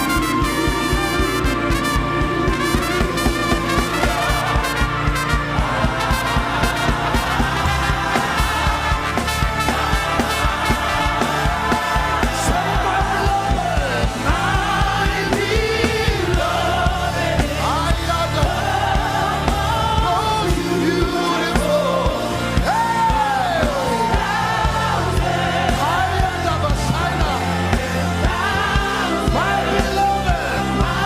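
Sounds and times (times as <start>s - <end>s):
band with steady bass beat: 0.0s - 31.0s
voices singing gospel: 0.0s - 31.0s.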